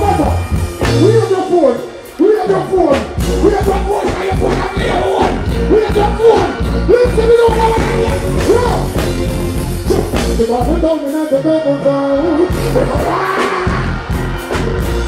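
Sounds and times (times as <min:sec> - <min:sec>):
steady drum beat: 0:00.0 - 0:11.4, 0:12.4 - 0:15.0
heavy bass line: 0:00.0 - 0:15.0.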